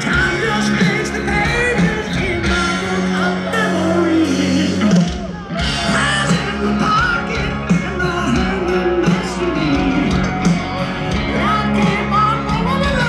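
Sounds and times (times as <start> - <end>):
electric guitar: 0.0 - 13.0
live rock band playing: 0.0 - 13.0
person singing: 0.0 - 13.0.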